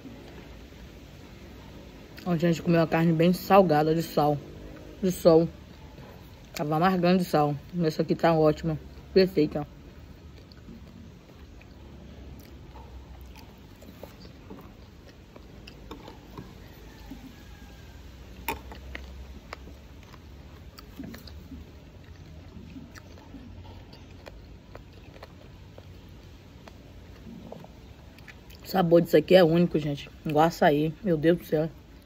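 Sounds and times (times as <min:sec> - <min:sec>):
chewing with mouth clicks: 0:04.1 - 0:30.9.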